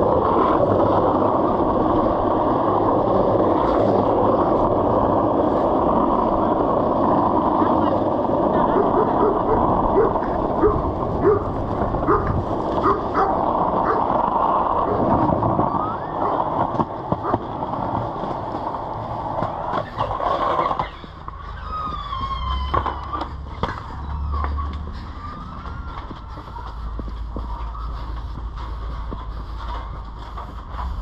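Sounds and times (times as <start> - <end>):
skateboard wheels on rough pavement: 0.0 - 31.0.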